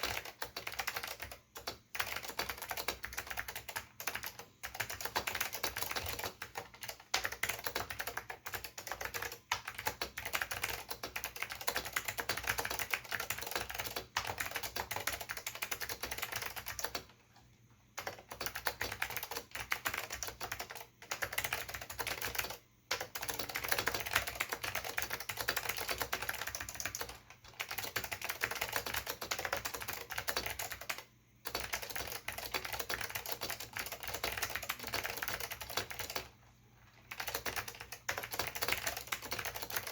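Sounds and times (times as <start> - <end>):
mechanical keyboard typing: 0.0 - 36.4, 37.0 - 39.9.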